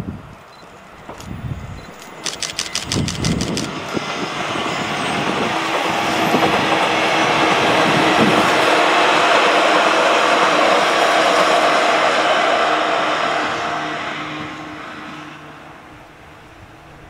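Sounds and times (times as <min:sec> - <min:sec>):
train running on rails: 0:00.0 - 0:17.0.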